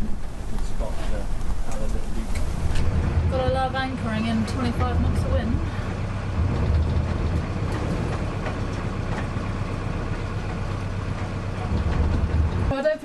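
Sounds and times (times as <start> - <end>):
wind rumble on microphone: 0.0 - 12.7
boat engine droning: 0.0 - 13.0.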